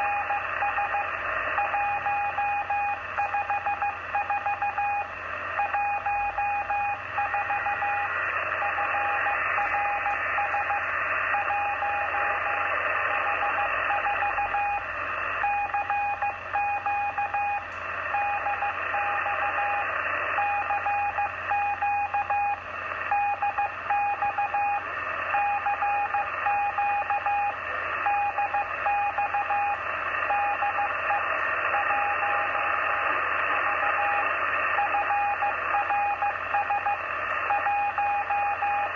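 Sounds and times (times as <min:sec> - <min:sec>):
morse code beeps: 0:00.0 - 0:32.8, 0:33.5 - 0:38.9
radio band hiss: 0:00.0 - 0:38.9.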